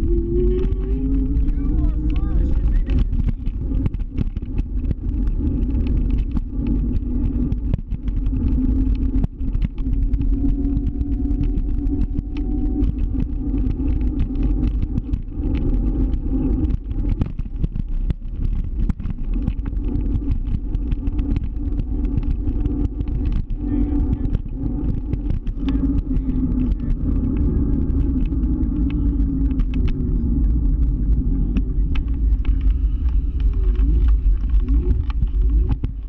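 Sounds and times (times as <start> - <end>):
scooter rumbling over pavement: 0.0 - 36.0.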